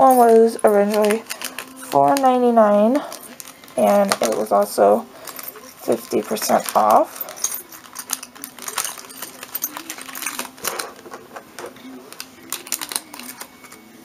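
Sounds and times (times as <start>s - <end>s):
metal charms and packaging rattling: 0.0s - 13.9s.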